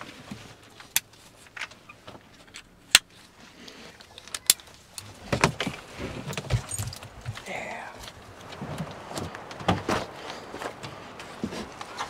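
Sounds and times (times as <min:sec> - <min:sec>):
gear clicks and knocks: 0:00.2 - 0:12.0.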